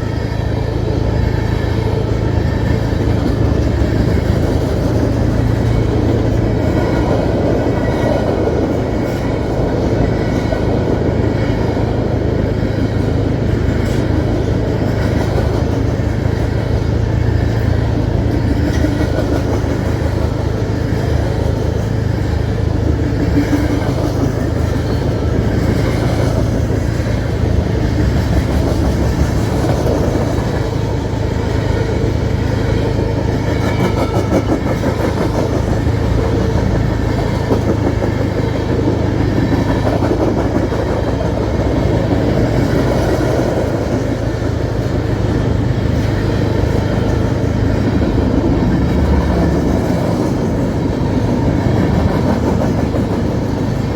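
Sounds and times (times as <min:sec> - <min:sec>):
freight train rumbling by: 0:00.0 - 0:53.9
wheels on rails: 0:00.0 - 0:53.9.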